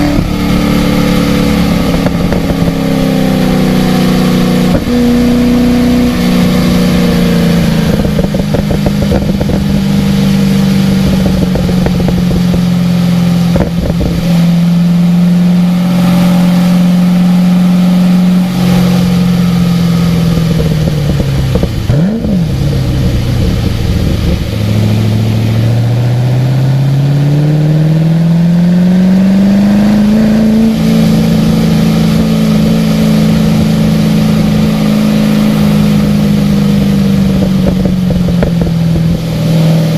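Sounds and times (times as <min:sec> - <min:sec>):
car engine accelerating and slowing: 0:00.0 - 0:39.9.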